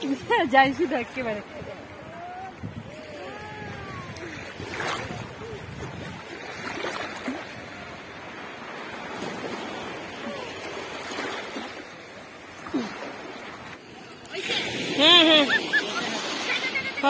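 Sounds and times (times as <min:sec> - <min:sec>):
shallow sea water sloshing: 0:00.0 - 0:17.0
water splashes: 0:00.0 - 0:17.0.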